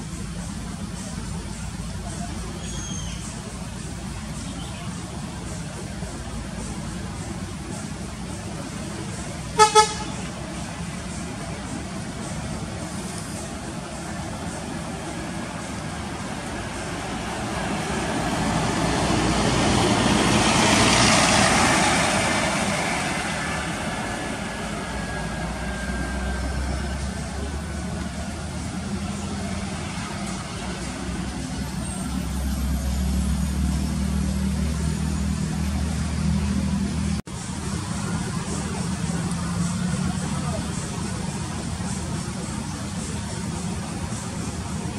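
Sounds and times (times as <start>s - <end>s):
low diesel engine drone: 0.0s - 44.9s.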